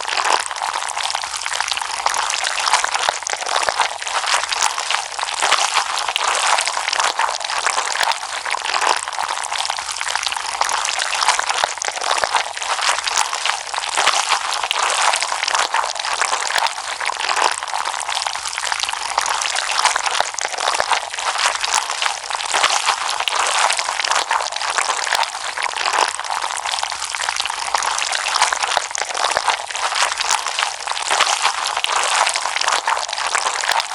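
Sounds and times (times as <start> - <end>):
slime squished by hand: 0.0 - 33.9.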